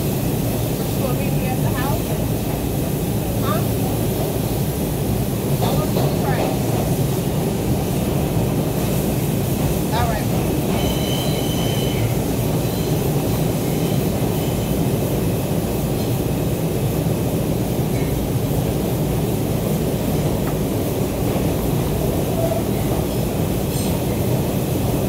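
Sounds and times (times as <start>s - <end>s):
subway car rumbling on track: 0.0s - 25.0s.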